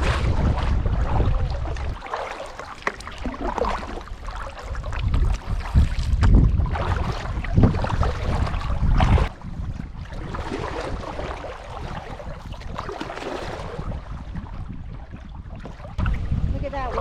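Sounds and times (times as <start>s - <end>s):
water lapping and splashing: 0.0s - 17.0s
wind rumbling on microphone: 0.0s - 17.0s.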